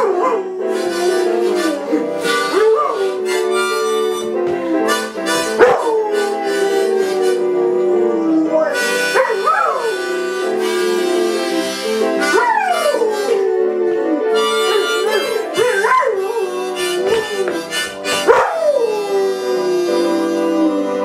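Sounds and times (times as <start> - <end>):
blues music: 0.0 - 21.0
dog howling: 0.0 - 21.0.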